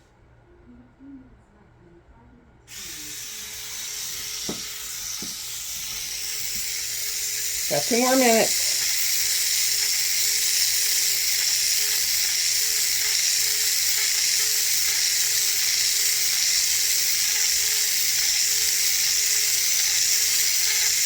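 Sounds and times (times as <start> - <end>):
electric resin mixer whining: 2.7 - 21.0.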